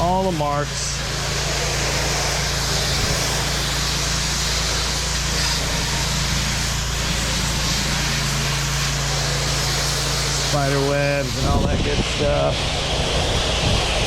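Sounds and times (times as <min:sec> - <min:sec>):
engine running steadily: 0:00.0 - 0:14.0
water spraying hiss: 0:00.0 - 0:14.0.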